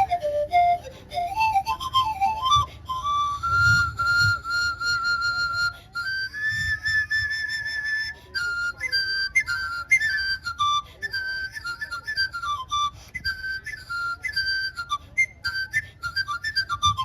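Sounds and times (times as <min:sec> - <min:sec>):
bamboo panpipe playing: 0:00.0 - 0:17.0.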